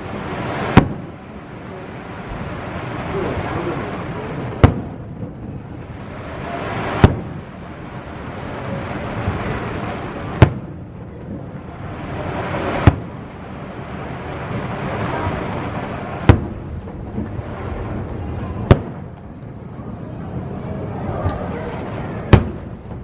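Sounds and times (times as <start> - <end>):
continuous hiss: 0.0 - 23.0
fireworks bursting: 0.0 - 23.0.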